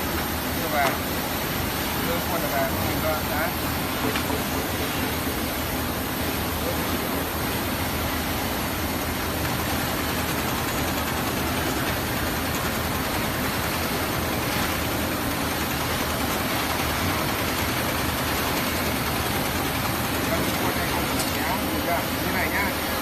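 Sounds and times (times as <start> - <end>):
machinery hum and hiss: 0.0 - 23.0.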